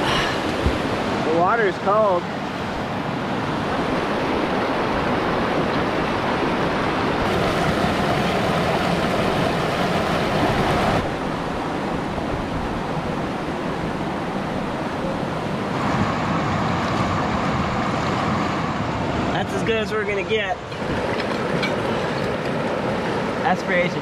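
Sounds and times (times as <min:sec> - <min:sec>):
creek water rushing over rapids: 0:00.0 - 0:24.0.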